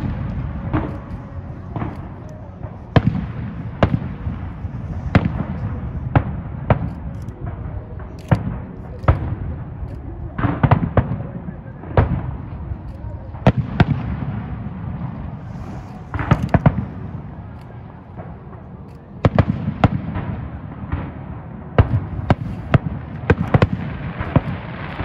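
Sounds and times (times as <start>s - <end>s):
continuous low rumble: 0.0s - 25.0s
firework shells bursting: 0.0s - 25.0s.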